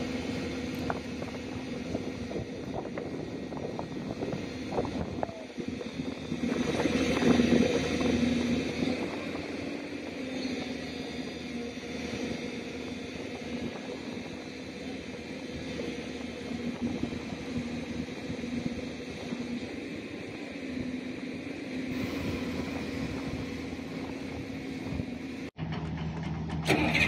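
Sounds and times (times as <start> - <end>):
heavy diesel engines under load: 0.0 - 27.0.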